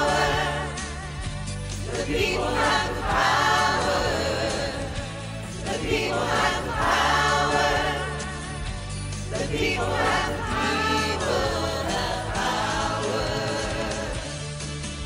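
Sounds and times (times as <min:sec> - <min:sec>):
mixed choir singing: 0:00.0 - 0:14.6.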